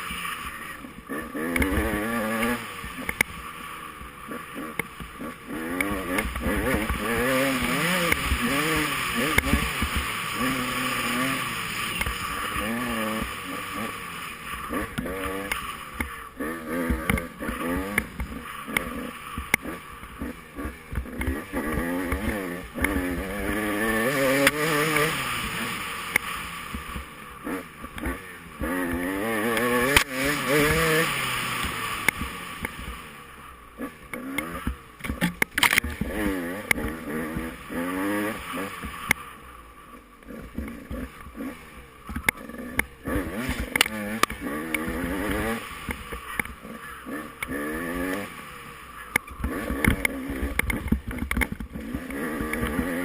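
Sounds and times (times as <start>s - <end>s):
off-road engine revving: 0.0s - 53.0s.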